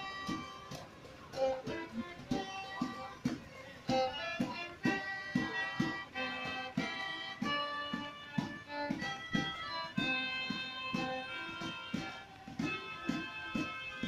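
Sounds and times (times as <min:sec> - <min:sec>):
fiddle playing held notes: 0:00.0 - 0:14.0
steady beat: 0:00.0 - 0:14.0.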